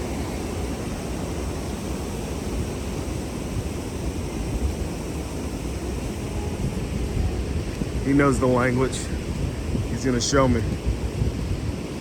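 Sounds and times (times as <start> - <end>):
river water rushing: 0.0 - 12.0
wind rumbling on microphone: 0.0 - 12.0.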